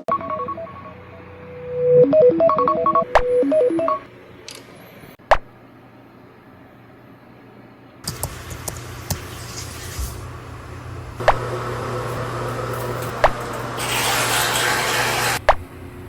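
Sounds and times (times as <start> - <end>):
steady low hum: 0.2 - 13.8.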